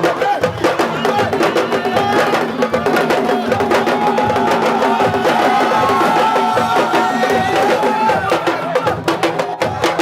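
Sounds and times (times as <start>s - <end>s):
fast hand-drumming: 0.0s - 10.0s.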